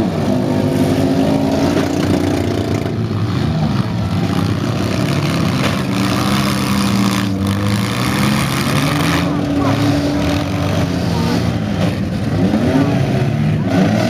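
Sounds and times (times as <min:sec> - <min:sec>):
engines revving: 0:00.0 - 0:14.0.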